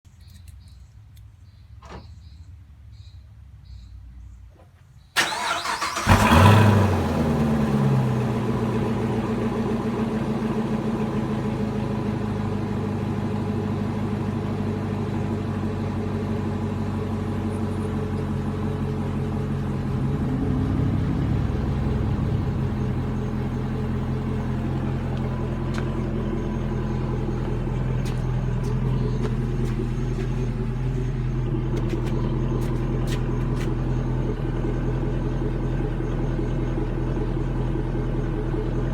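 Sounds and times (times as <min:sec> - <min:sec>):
car engine cranking and idling: 0:04.6 - 0:38.9.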